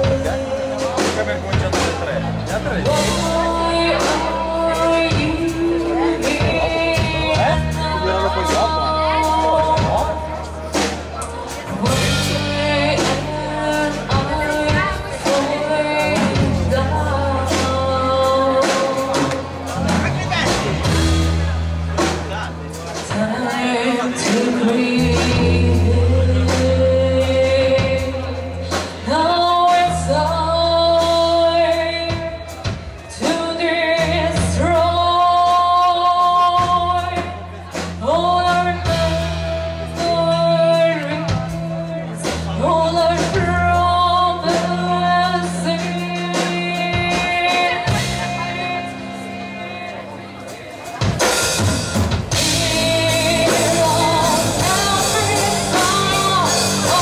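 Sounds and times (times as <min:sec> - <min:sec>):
bass notes: 0:00.0 - 0:57.0.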